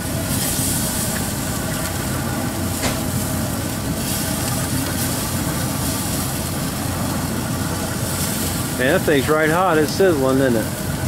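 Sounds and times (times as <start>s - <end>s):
mechanical rumble: 0.0s - 11.0s.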